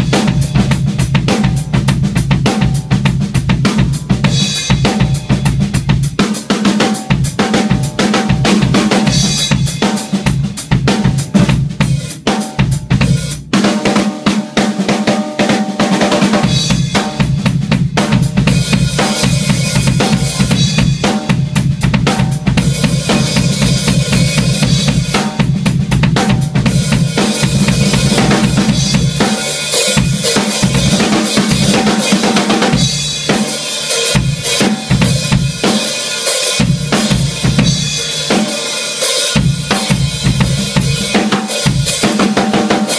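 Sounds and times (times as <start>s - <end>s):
drum kit playing: 0.0s - 42.9s.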